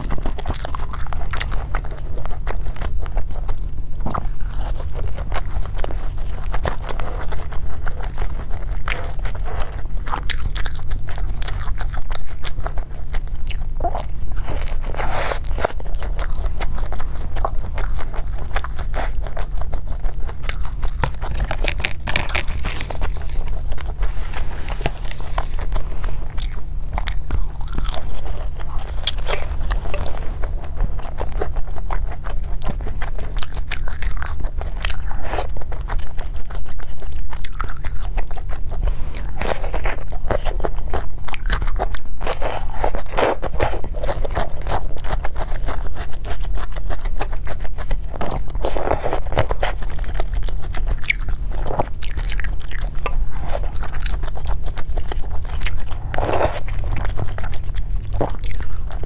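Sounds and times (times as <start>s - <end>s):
crunching and chewing crispy food: 0.0s - 59.0s
steady low hum: 0.0s - 59.0s.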